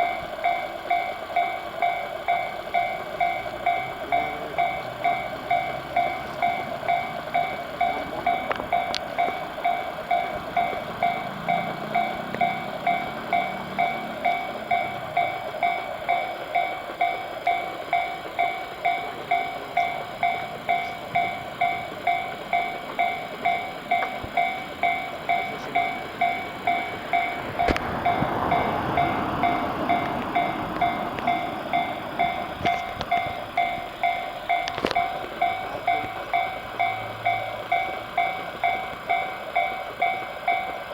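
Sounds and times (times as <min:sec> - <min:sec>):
level crossing warning bell: 0:00.0 - 0:40.9
train passing: 0:00.0 - 0:40.9.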